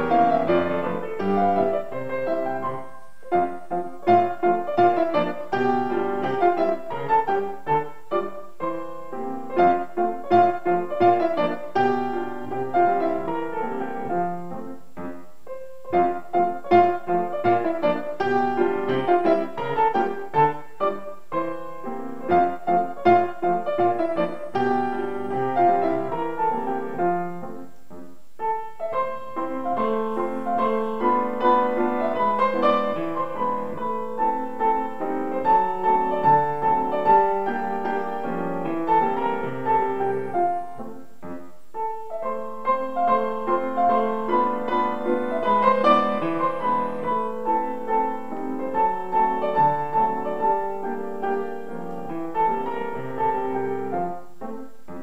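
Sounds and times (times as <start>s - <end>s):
solo grand piano piece: 0.0s - 55.0s.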